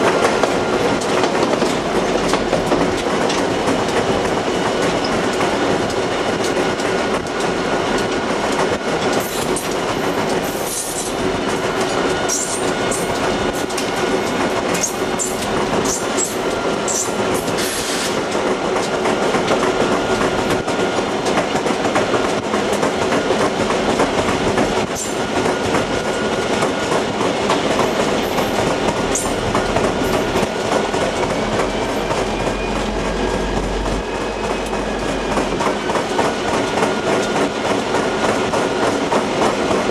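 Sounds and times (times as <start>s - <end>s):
railroad cars clattering on rails: 0.0s - 39.9s.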